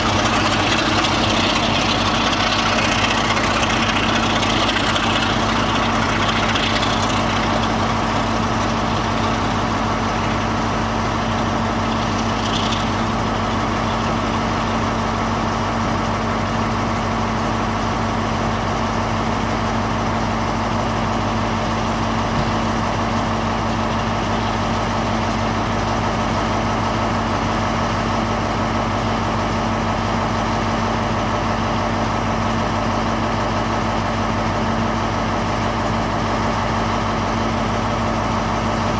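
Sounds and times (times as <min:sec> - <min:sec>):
diesel locomotive engine idling: 0:00.0 - 0:38.9.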